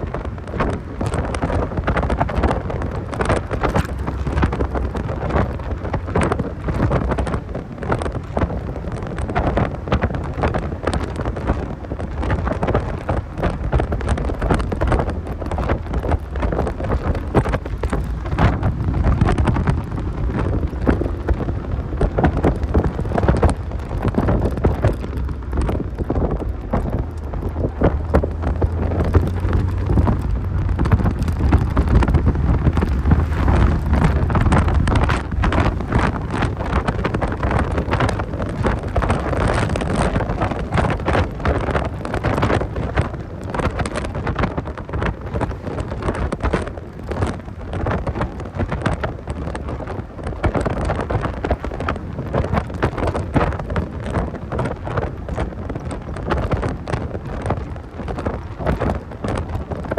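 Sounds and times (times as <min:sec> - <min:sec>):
car engine drone: 0:00.0 - 0:59.8
road noise: 0:00.0 - 0:59.9
wind buffeting microphone: 0:00.0 - 0:59.9.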